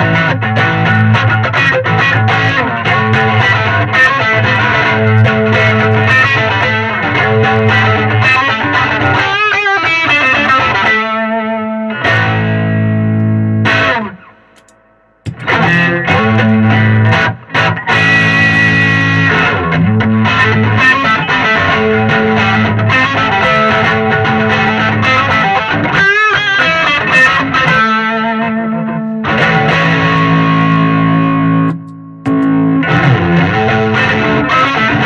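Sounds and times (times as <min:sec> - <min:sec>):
fuzz electric guitar riffs: 0:00.0 - 0:35.0.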